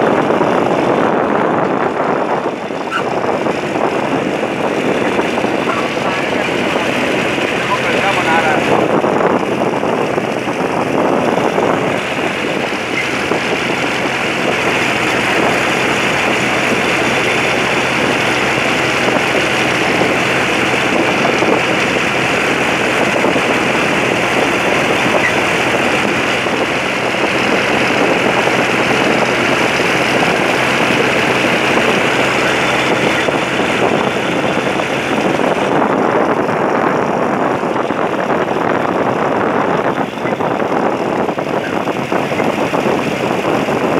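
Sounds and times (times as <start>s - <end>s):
loud rushing noise: 0.0s - 43.9s
tractor engine running: 0.0s - 43.9s.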